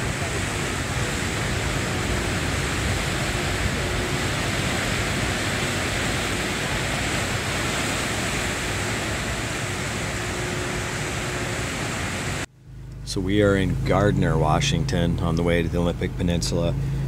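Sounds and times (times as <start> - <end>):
propeller wash churning water: 0.0 - 17.0.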